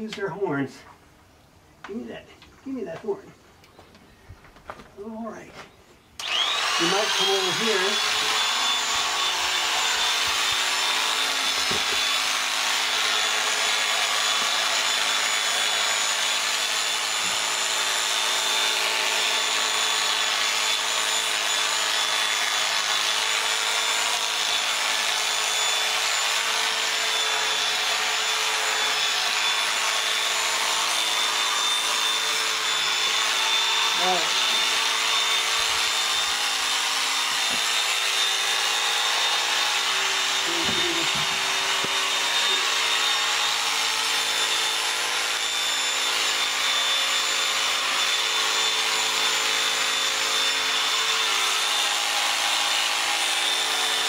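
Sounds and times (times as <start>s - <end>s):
electric clippers shearing fleece: 6.2s - 54.0s.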